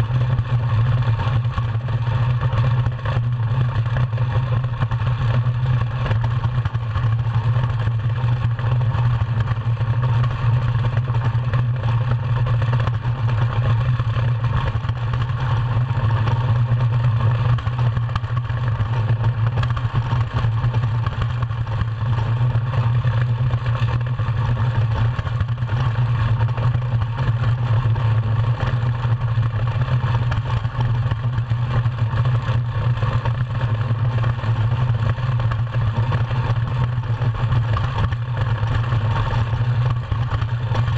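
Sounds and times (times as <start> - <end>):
iceboat runners rumbling over ice: 0.0 - 40.9.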